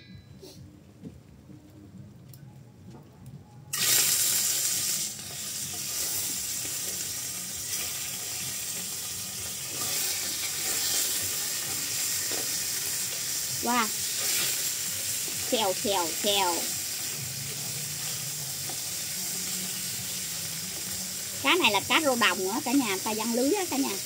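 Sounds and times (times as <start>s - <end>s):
fish sizzling in hot oil: 3.7s - 24.0s.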